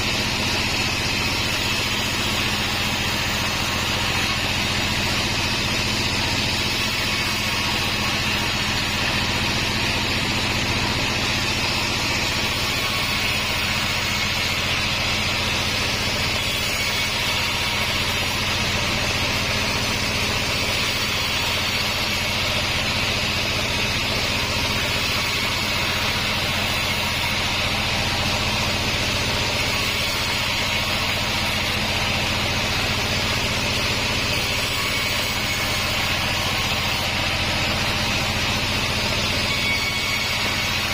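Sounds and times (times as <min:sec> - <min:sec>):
band sawmill motor humming: 0:00.0 - 0:40.9.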